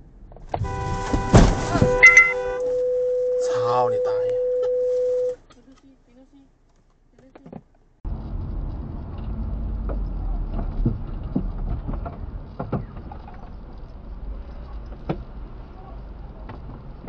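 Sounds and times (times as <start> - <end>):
car engine rumble and road noise: 0.0 - 17.0.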